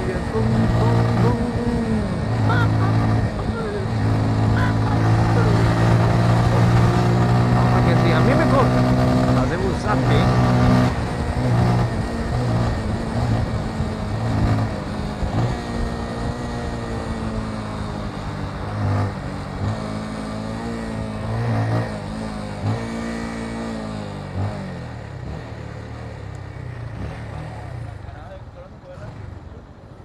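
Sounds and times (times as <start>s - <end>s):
motorcycle engine accelerating: 0.0s - 30.0s
wind and road noise: 0.0s - 30.0s.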